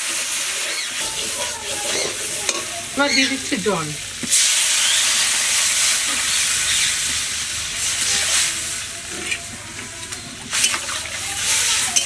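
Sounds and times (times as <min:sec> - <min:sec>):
water hissing in hot oil: 0:00.0 - 0:12.0.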